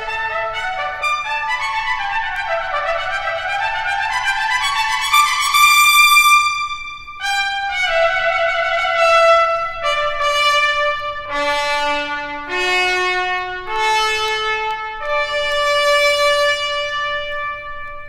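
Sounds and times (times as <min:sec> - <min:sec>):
solo trumpet long notes: 0:00.0 - 0:18.0.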